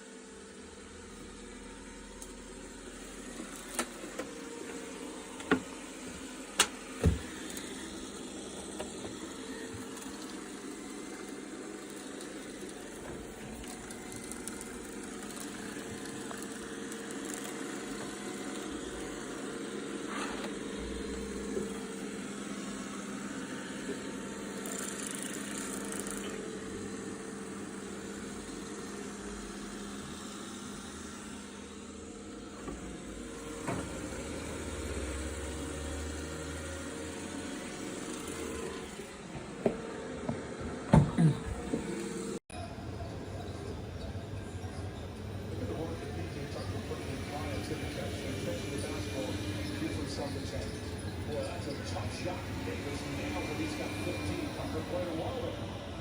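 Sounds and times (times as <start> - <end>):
robot vacuum motor hum: 0.0 - 56.0.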